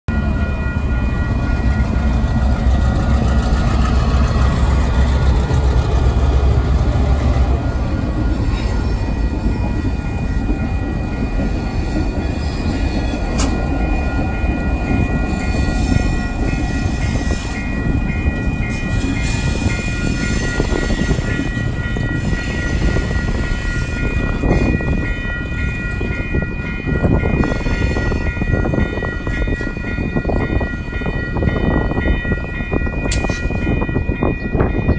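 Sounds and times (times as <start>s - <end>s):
diesel locomotive engines: 0.1s - 34.9s.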